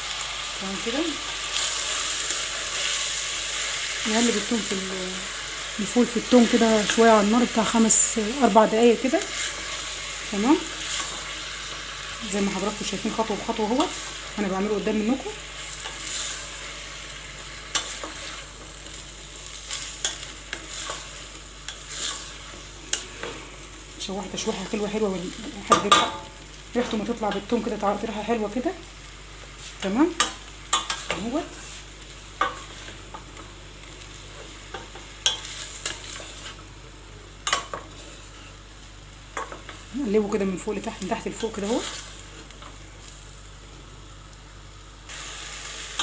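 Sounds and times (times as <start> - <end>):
beans sizzling in a pot: 0.0 - 46.0.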